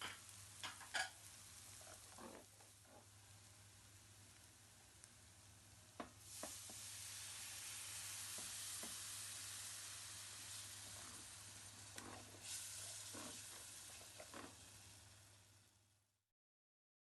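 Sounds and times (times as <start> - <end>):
food sizzling in a frying pan: 0.0 - 16.2.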